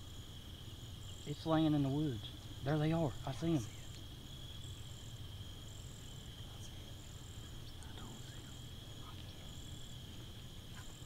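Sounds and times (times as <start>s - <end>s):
crickets trilling: 0.0s - 11.0s
higher cricket trill: 0.0s - 11.0s
faint low rumble: 1.0s - 11.0s.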